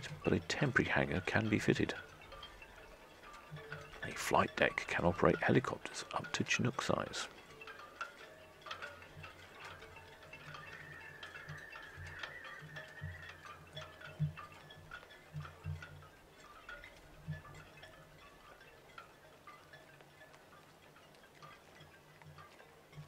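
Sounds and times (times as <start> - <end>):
light chiming notes: 0.0 - 23.0.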